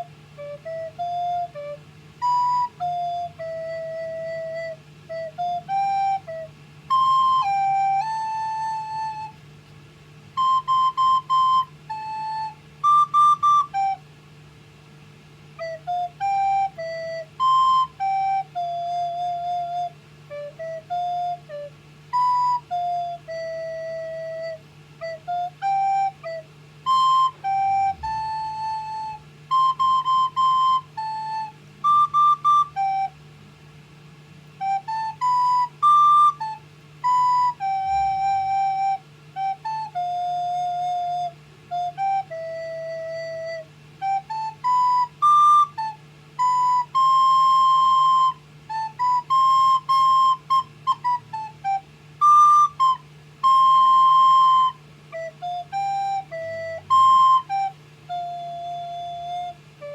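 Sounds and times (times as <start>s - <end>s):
recorder melody: 0.0s - 9.4s, 10.1s - 14.2s, 15.5s - 33.3s, 34.4s - 59.9s.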